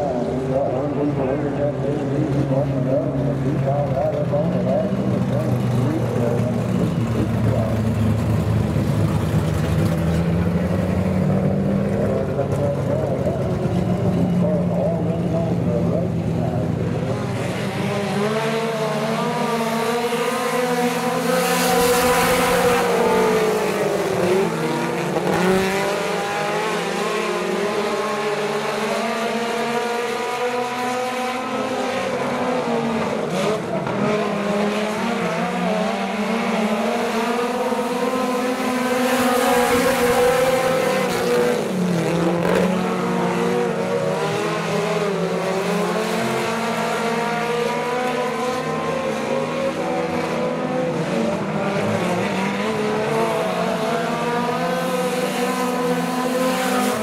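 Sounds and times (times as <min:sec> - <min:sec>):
race car engines: 0:00.0 - 0:57.0.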